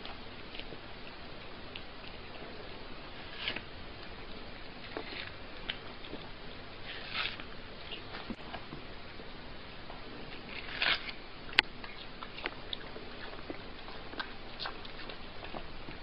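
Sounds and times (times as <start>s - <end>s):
cat chewing watermelon: 0.0s - 16.0s.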